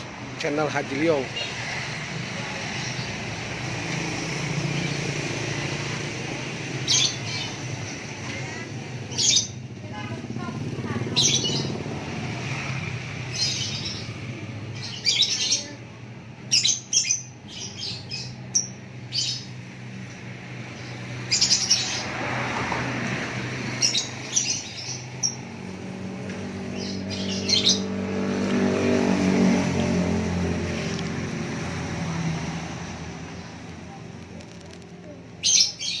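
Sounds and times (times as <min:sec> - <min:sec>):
passing motor vehicle: 0:00.0 - 0:36.0
songbirds chirping: 0:00.0 - 0:36.0.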